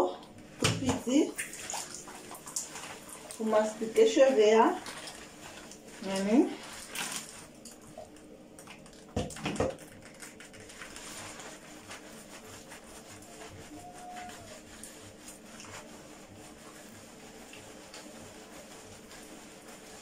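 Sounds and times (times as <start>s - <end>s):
hands scrubbing lathered hair: 0.0s - 20.0s.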